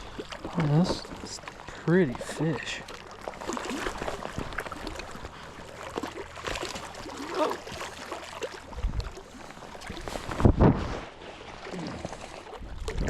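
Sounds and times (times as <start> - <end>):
water splashing at shore: 0.0 - 13.0.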